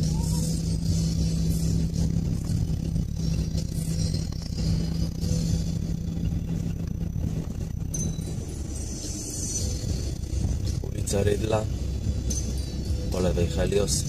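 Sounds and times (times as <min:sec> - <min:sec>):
car engine hum: 0:00.0 - 0:14.0
low road rumble: 0:00.0 - 0:14.0.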